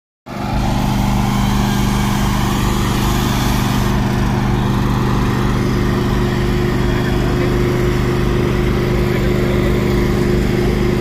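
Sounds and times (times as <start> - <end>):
diesel engine running: 0.3 - 11.0.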